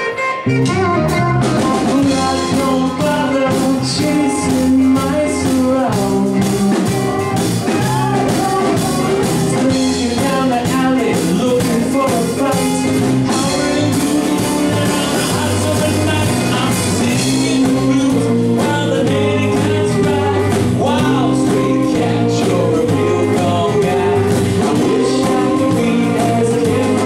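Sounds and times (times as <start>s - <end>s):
bass guitar: 0.0s - 27.0s
drums: 0.0s - 27.0s
keyboard: 0.0s - 27.0s
man singing: 1.6s - 27.0s.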